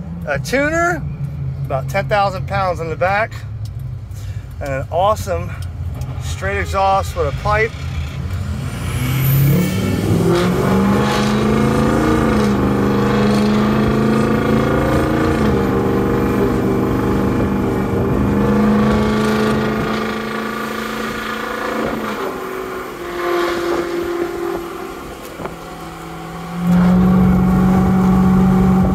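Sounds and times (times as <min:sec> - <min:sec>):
diesel truck engine under load: 0:00.0 - 0:28.9.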